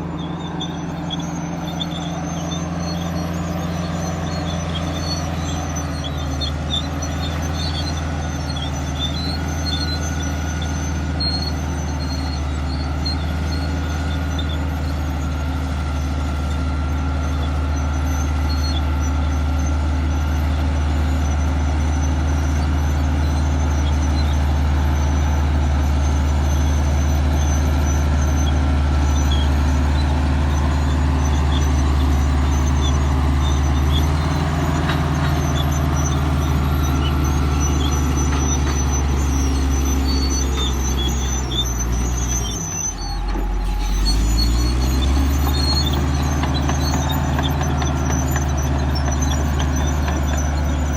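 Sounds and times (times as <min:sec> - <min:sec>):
bulldozer diesel engine droning: 0:00.0 - 0:50.9.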